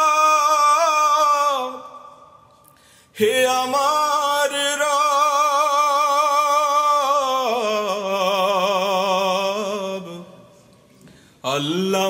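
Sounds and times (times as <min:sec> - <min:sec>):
person singing with vibrato: 0:00.0 - 0:10.7.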